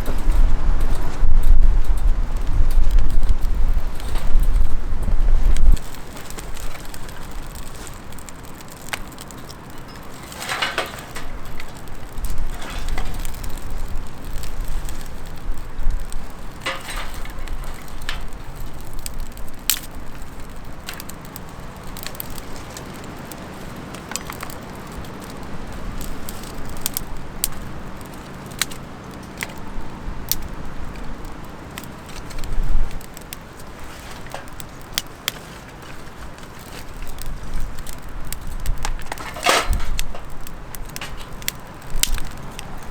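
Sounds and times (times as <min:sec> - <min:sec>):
campfire crackling: 0:00.0 - 0:42.9
rustling handling noises: 0:00.0 - 0:42.9
sharp pops from fire: 0:00.0 - 0:42.9.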